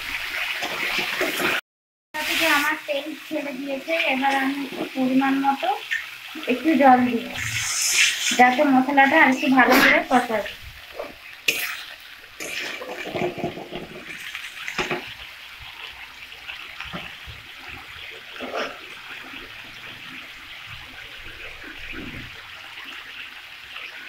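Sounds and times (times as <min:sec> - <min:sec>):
sauce sizzling and bubbling in a pan: 0:00.0 - 0:01.6, 0:02.2 - 0:24.0.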